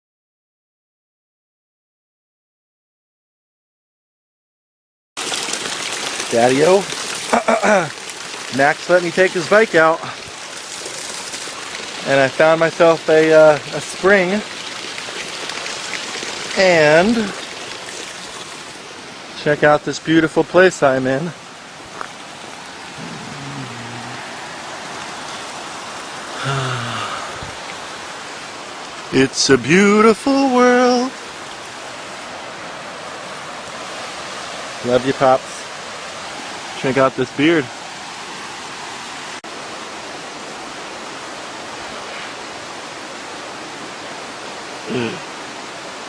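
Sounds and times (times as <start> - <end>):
waterfall rushing: 5.2 - 46.0.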